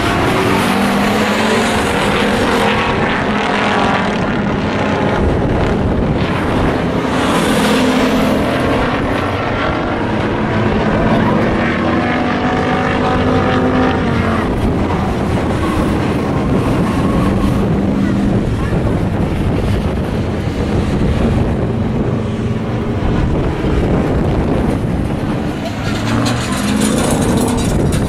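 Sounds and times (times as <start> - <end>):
racing truck engines: 0.0 - 28.0.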